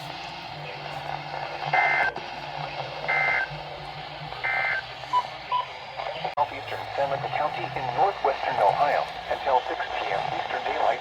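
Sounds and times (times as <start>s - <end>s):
steady radio hum: 0.0s - 11.0s.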